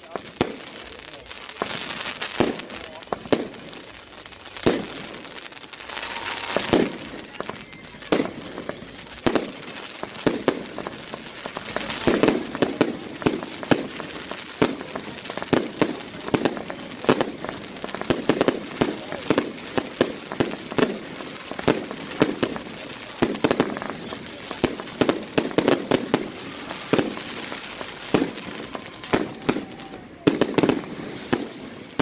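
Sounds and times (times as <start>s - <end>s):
crackling hiss of fireworks: 0.0s - 32.0s
fireworks bangs: 0.0s - 32.0s.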